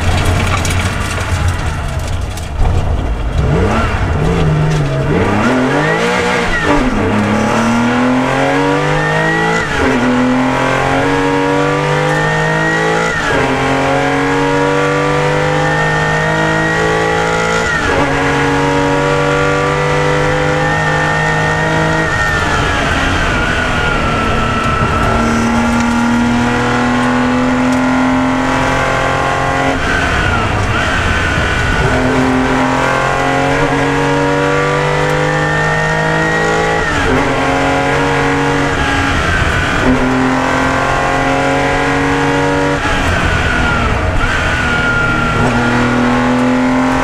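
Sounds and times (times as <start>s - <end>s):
race car engine revving: 0.0s - 47.0s
tyre and road noise: 0.0s - 47.0s.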